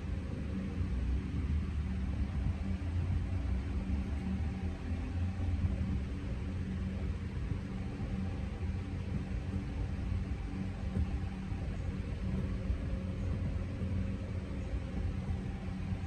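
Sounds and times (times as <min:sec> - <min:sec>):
faint hum: 0:00.0 - 0:16.0
low rumble: 0:00.0 - 0:16.0.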